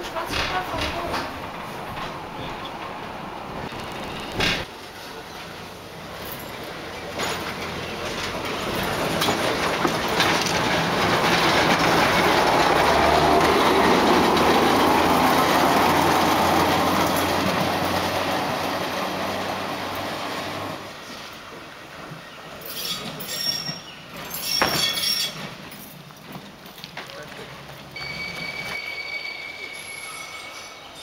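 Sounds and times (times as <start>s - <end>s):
tram running on rails: 0.0s - 31.0s.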